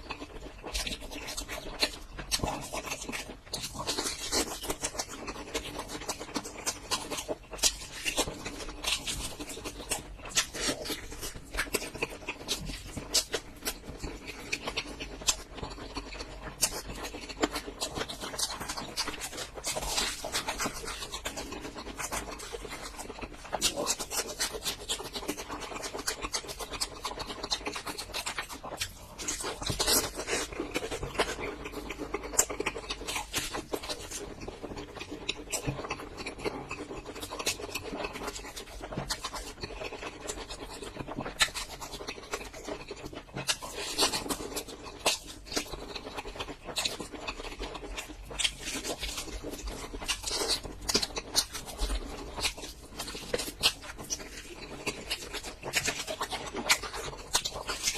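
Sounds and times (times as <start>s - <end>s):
crunchy chewing of fried food: 0.0s - 57.9s.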